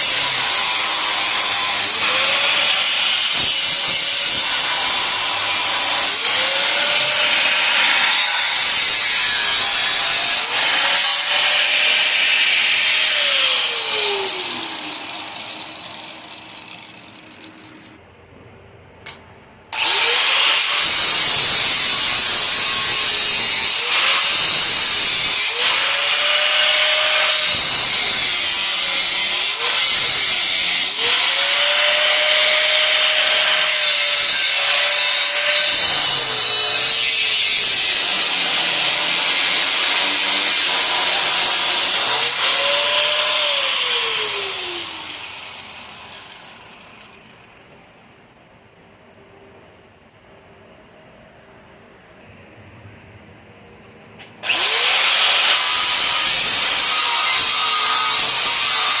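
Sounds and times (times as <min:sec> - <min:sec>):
angle grinder grinding steel: 0:00.0 - 0:18.0, 0:19.8 - 0:47.9, 0:54.4 - 0:59.0.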